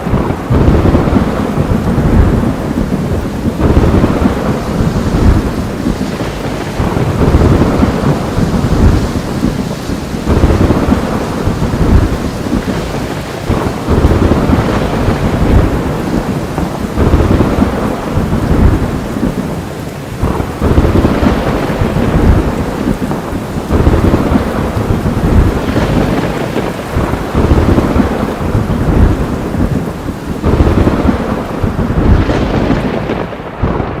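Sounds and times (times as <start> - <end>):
heavy rain pouring: 0.0 - 34.0
rolling thunder: 0.0 - 34.0.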